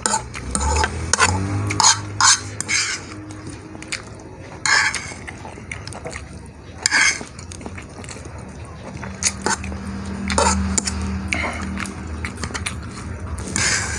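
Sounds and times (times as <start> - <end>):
slurping noodles: 0.0 - 13.9.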